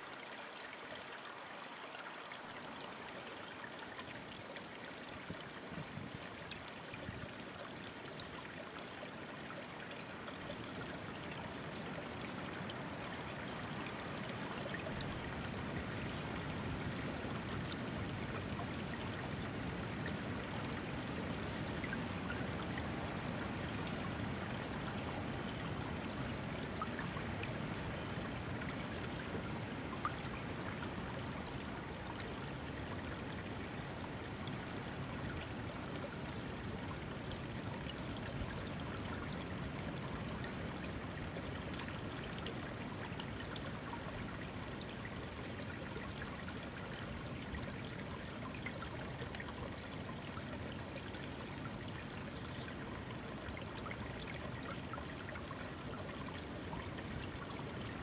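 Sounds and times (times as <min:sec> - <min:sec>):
stream water rushing over stones: 0:00.0 - 0:58.0.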